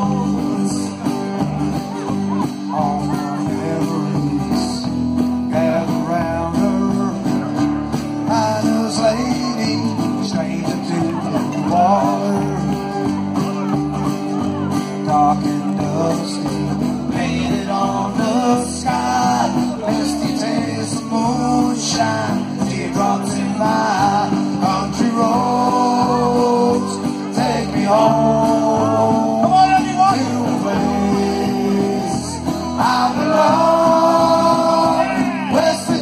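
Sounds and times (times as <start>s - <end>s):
man singing: 0.0s - 13.7s, 14.6s - 36.0s
strummed acoustic guitar: 0.0s - 36.0s
upright double bass: 0.0s - 36.0s.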